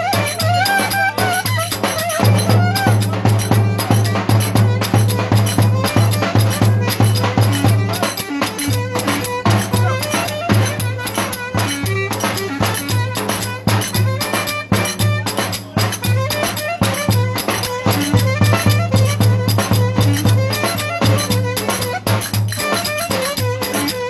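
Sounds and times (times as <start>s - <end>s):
folk dance music played by band: 0.0s - 24.0s.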